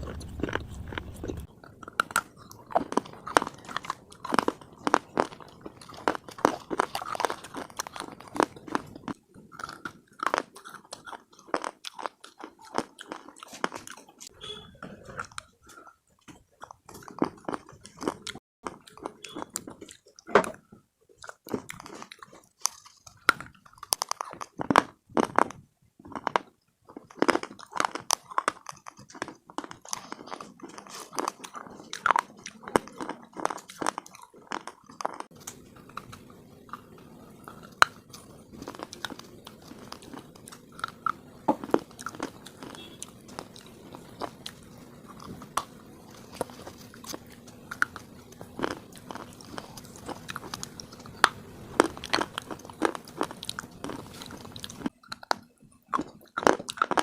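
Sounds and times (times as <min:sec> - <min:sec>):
biting and crunching hard pieces: 0:00.0 - 0:14.3, 0:15.0 - 0:20.6, 0:21.2 - 0:57.0.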